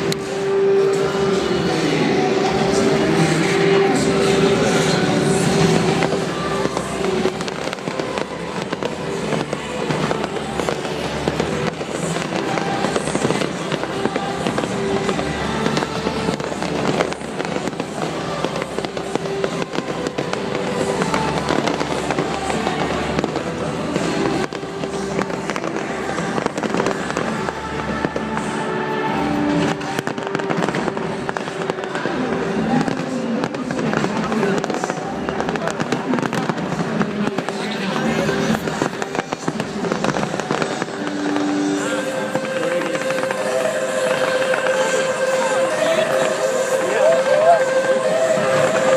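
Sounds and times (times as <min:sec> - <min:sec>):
fireworks bursting and crackling: 0:00.0 - 0:48.9
music: 0:00.0 - 0:48.9.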